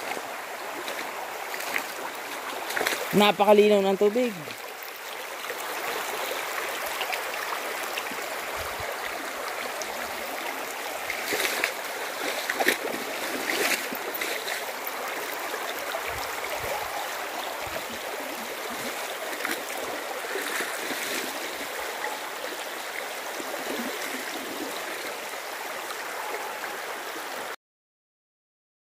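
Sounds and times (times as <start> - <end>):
river rushing over stones: 0.0 - 27.6
water splashes: 0.0 - 27.6.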